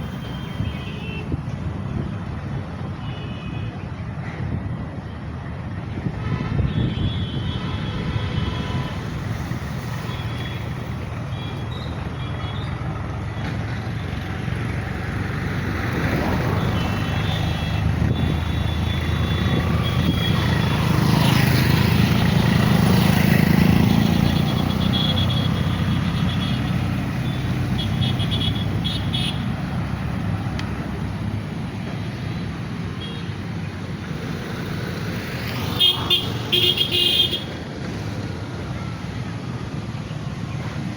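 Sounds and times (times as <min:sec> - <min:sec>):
vehicle engines and tyres: 0:00.0 - 0:40.9.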